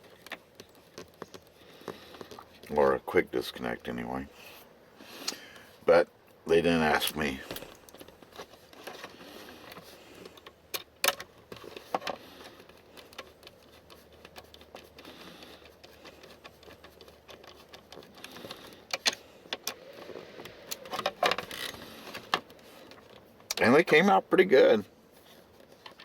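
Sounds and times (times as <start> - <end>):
rustling and handling noise: 0.0 - 26.0.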